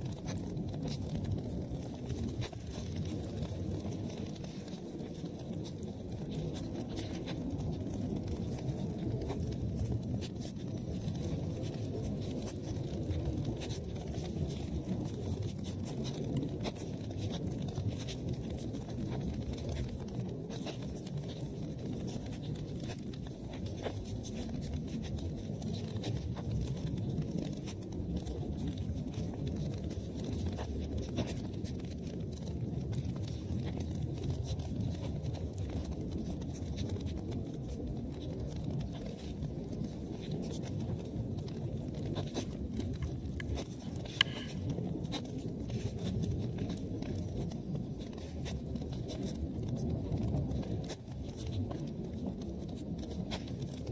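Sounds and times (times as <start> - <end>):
fire crackling and popping: 0.0 - 53.9
fire rumbling: 0.0 - 53.9.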